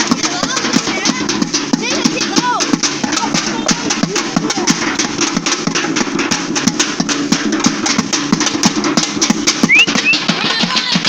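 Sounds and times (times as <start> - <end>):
fast percussion drumming: 0.0 - 11.0.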